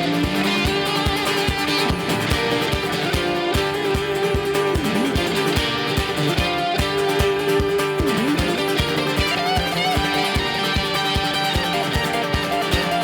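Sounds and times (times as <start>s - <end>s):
electric guitar bending notes: 0.0s - 13.0s
steady drum beat: 0.0s - 13.0s.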